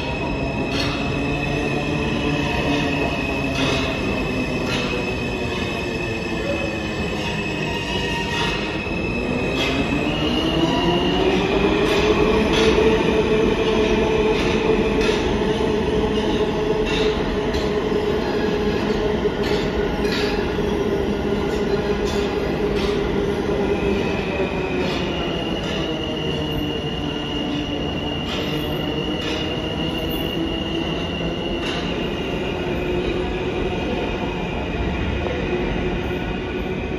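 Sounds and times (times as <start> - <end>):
subway train on track: 0.0 - 36.9.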